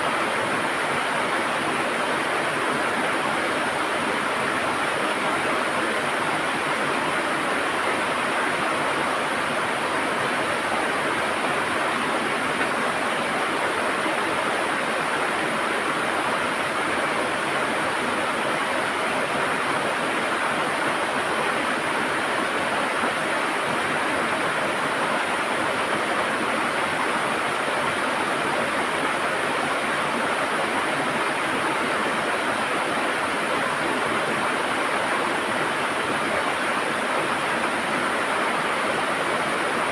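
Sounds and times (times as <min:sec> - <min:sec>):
river gurgling over rocks: 0:00.0 - 0:39.9.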